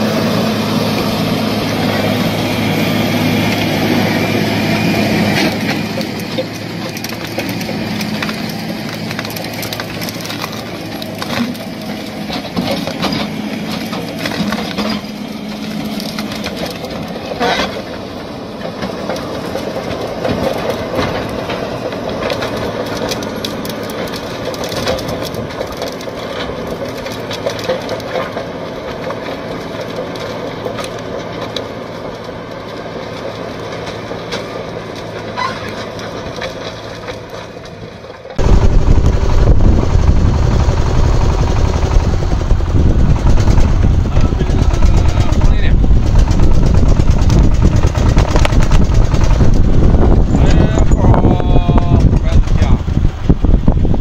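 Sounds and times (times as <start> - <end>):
heavy machine engine running: 0.0 - 54.0
wood cracking and crunching: 0.0 - 54.0.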